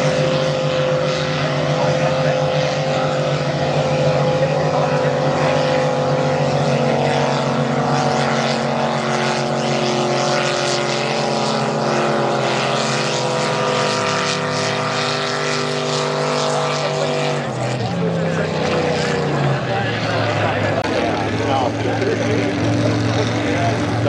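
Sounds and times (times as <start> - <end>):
racing boat engines droning: 0.0 - 24.0.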